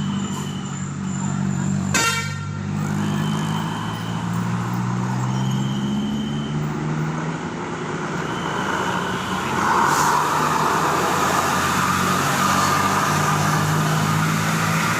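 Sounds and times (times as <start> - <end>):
bus engine and tyre noise: 0.0 - 14.9.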